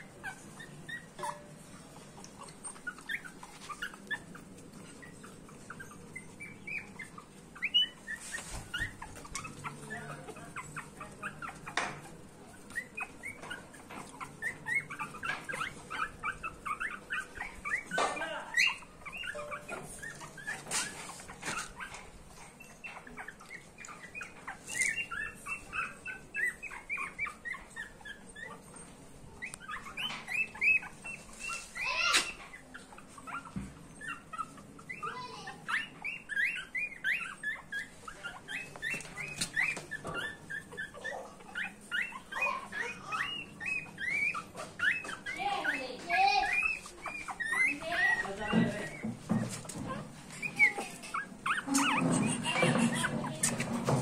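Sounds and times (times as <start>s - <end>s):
puppies whimpering and squeaking: 0.0s - 54.0s.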